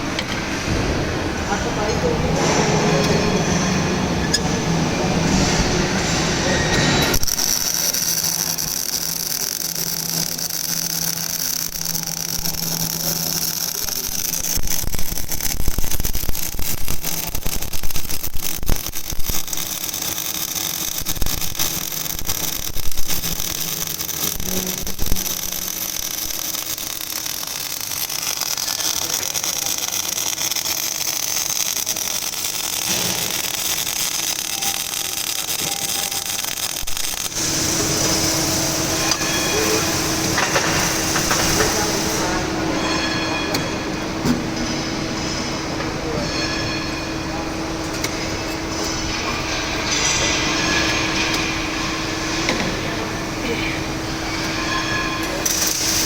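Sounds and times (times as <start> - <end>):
welding arc hissing and crackling: 0.0 - 46.4, 47.0 - 56.0.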